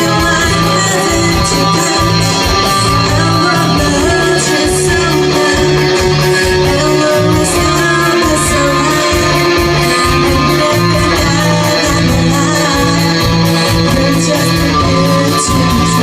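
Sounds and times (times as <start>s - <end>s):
electric guitars: 0.0s - 16.0s
live rock band playing: 0.0s - 16.0s.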